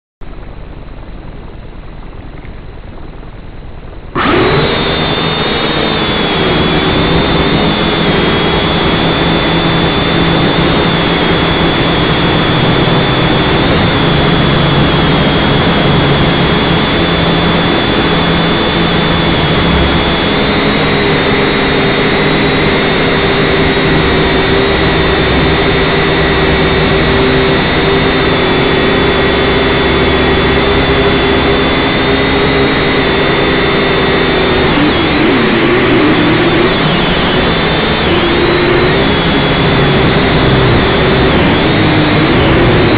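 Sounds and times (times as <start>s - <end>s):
drone motors whining: 3.9s - 42.9s.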